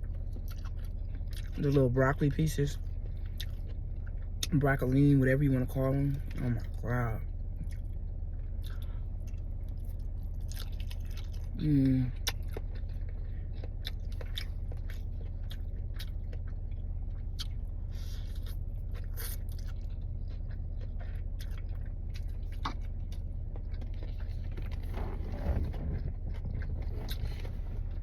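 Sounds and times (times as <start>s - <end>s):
person chewing food: 0.0s - 28.0s
steady low hum: 0.0s - 28.0s.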